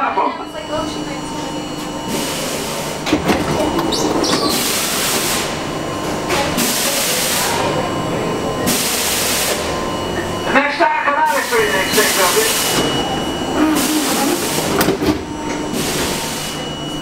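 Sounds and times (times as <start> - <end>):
subway doors sliding and clunking: 0.0 - 10.6, 11.2 - 17.0.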